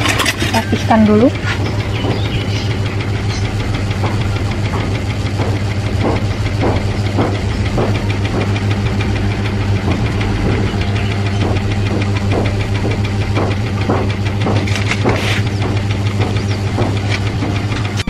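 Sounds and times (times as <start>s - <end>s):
low engine-like hum: 0.0s - 18.0s
faint regular knocks: 1.0s - 18.0s.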